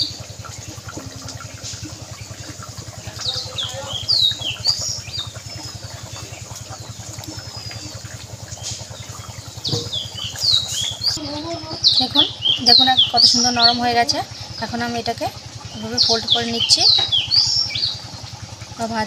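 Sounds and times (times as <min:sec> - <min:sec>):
birds chirping: 0:00.0 - 0:19.0
low pulsing hum: 0:00.0 - 0:19.0.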